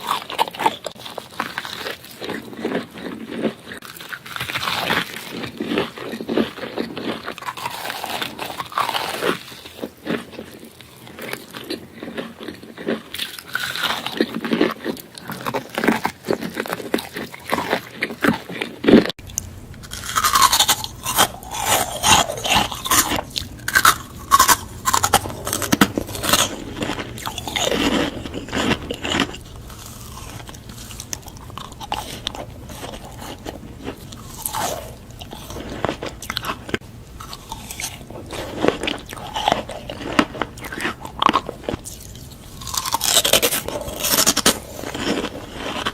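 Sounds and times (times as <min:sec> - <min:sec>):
crunchy bites and chewing: 0:00.0 - 0:45.9.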